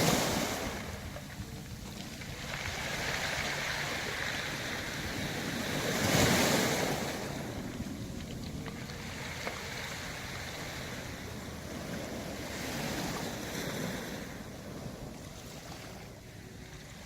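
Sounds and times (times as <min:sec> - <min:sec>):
waves washing over pebbles: 0:00.0 - 0:17.0.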